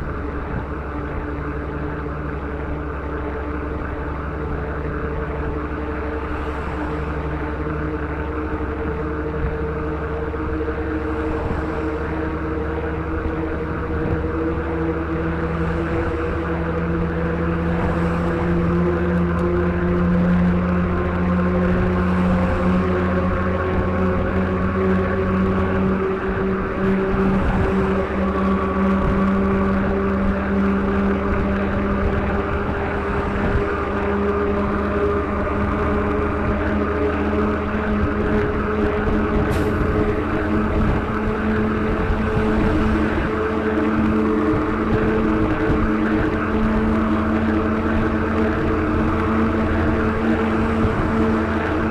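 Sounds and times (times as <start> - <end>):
road and rushing-air noise: 0.0 - 51.9
truck engine hum: 0.0 - 51.9.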